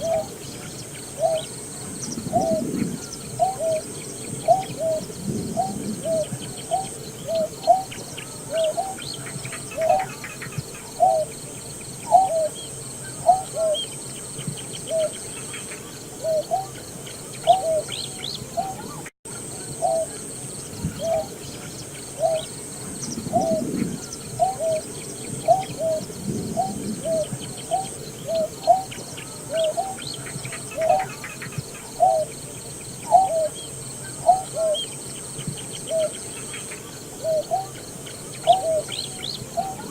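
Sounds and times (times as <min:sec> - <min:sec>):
bird low hooting notes: 0:00.0 - 0:39.9.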